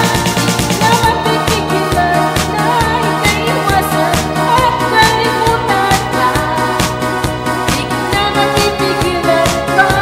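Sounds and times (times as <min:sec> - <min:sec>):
woman singing pop melody: 0:00.0 - 0:10.0.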